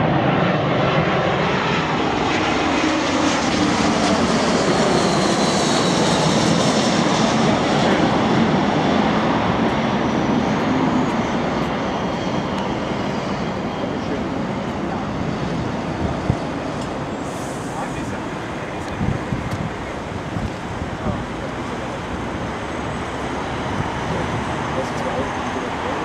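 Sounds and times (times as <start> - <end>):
jet airliner passing overhead: 0.0 - 26.0.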